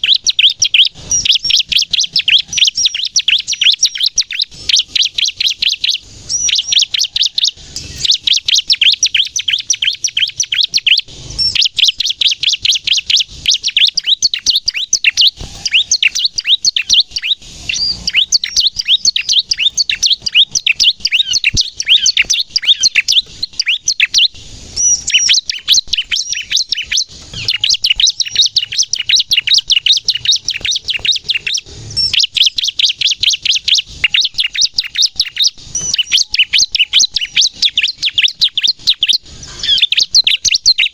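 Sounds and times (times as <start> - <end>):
bird rapid high chirps: 0.0 - 40.9.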